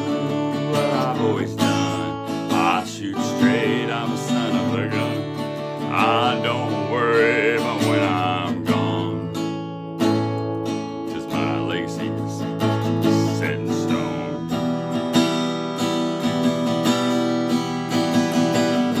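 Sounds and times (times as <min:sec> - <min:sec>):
acoustic guitar strumming: 0:00.0 - 0:19.0
sliding guitar notes: 0:00.0 - 0:19.0.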